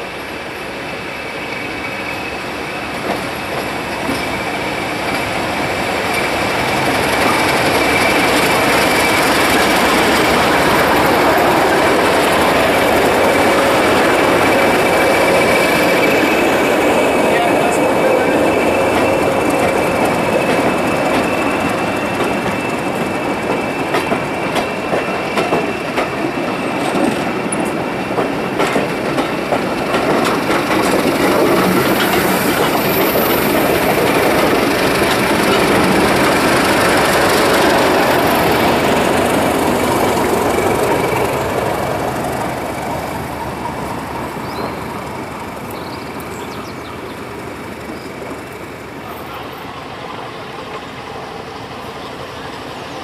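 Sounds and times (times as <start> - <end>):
diesel locomotive passing: 0.0 - 53.0
train wheels clicking over rail joints: 1.6 - 49.5.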